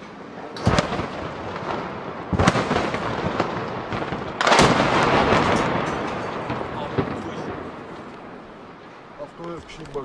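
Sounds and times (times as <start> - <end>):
explosions with rolling rumble: 0.6 - 9.4.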